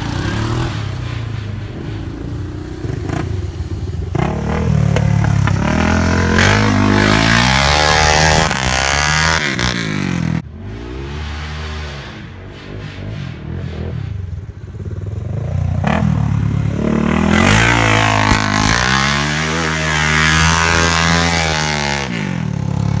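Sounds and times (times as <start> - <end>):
off-road vehicle engine revving: 0.0 - 23.0
wind and dirt noise: 0.0 - 23.0.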